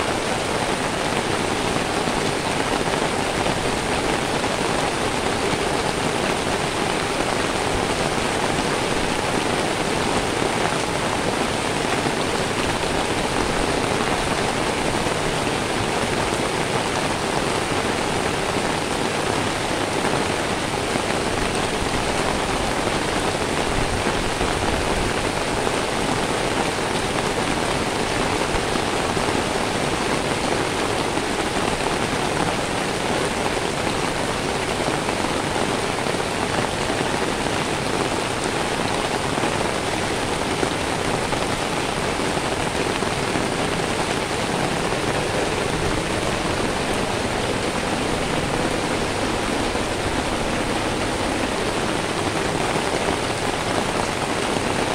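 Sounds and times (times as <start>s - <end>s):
rain on paved ground: 0.0s - 54.9s.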